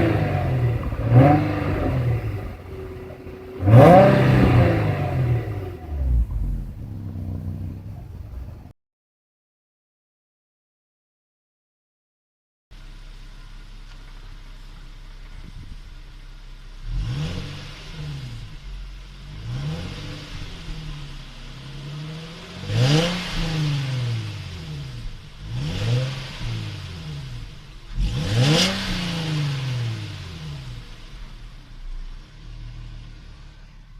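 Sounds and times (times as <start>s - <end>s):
car engine idling and revving: 0.0s - 8.7s, 12.7s - 33.9s.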